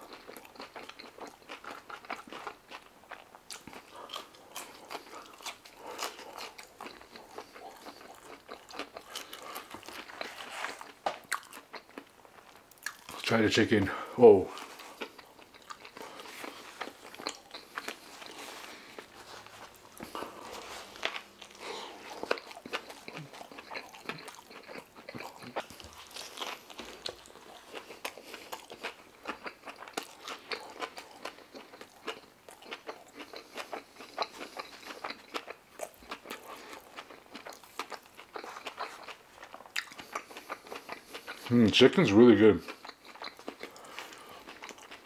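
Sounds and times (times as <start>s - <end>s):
chewing and biting food: 0.0s - 45.0s.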